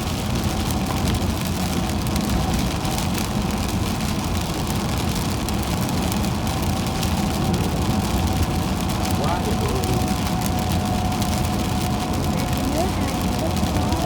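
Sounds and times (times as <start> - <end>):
raindrops pattering on car: 0.0 - 14.0
road and engine rumble: 0.0 - 14.0.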